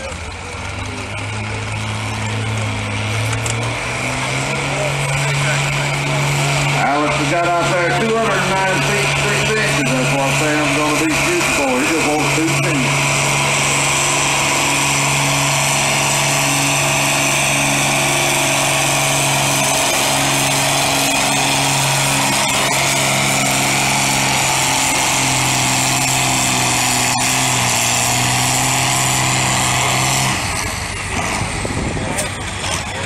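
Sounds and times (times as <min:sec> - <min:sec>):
tractor engine at full throttle: 0:00.0 - 0:33.0.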